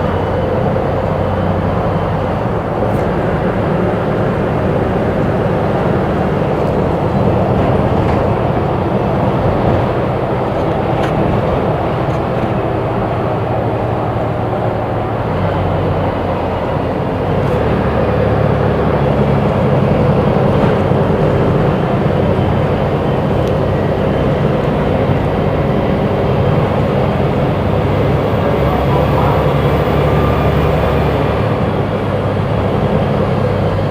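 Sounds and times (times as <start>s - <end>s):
bus engine running: 0.0s - 33.9s.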